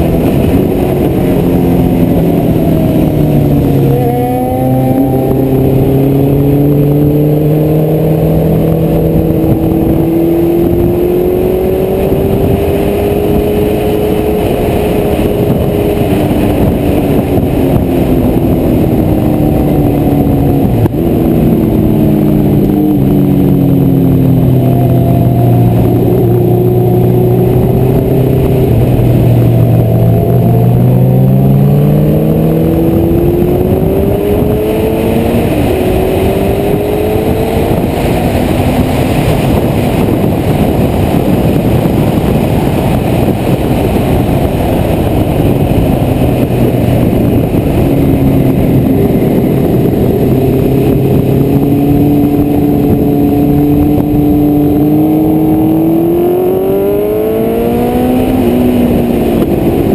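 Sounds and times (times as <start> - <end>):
motorcycle engine at speed: 0.0 - 59.9
wind noise: 0.0 - 59.9.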